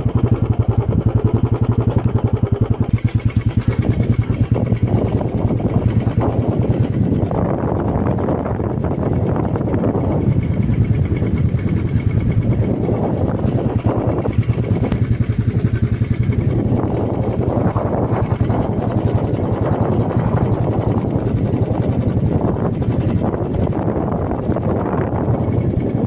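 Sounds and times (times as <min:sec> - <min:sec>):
motorcycle engine throbbing: 0:00.0 - 0:26.0.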